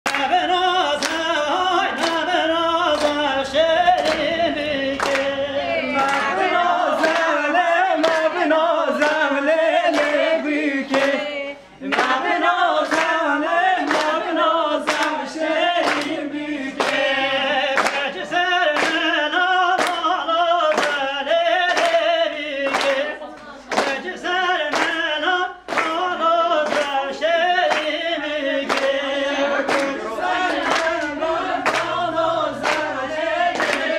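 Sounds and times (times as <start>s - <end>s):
rhythmic handclapping: 0.0s - 33.9s
group singing unaccompanied: 0.1s - 33.9s.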